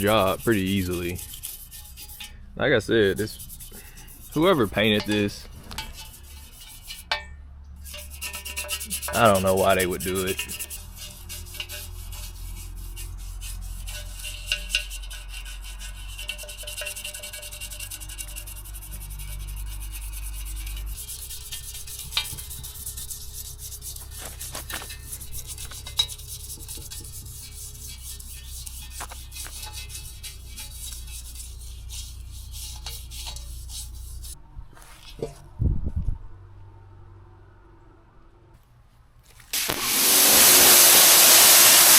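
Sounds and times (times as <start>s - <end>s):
scraping strokes on metal: 0.0s - 35.3s.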